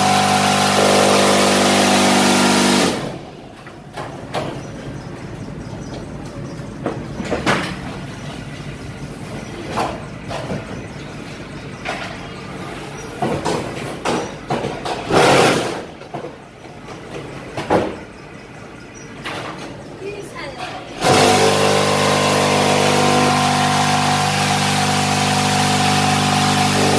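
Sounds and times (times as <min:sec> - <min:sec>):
brick making machine running: 0:00.0 - 0:18.1, 0:20.9 - 0:26.9.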